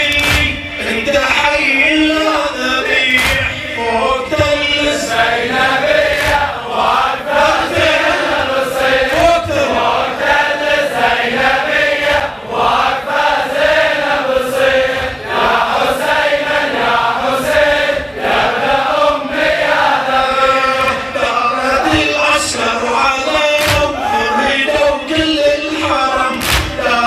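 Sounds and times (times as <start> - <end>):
men chanting together: 0.0 - 27.0.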